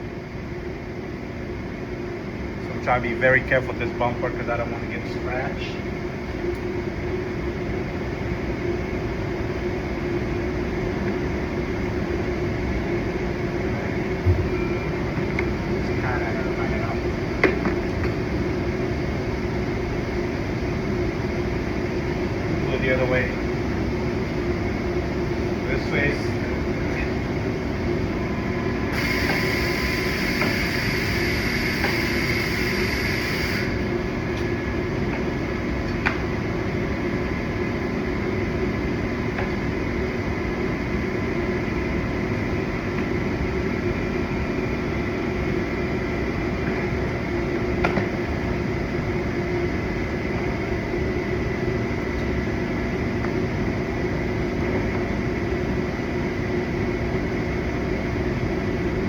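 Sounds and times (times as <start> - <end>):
ventilation unit humming: 0.0 - 59.0.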